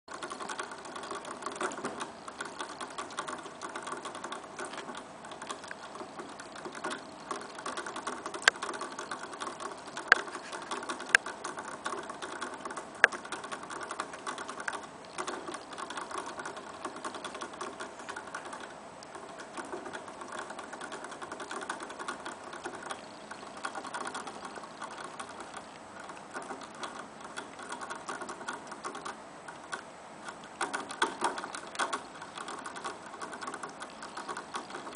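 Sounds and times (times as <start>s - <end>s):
water bottle valve ticking: 0.1s - 34.9s.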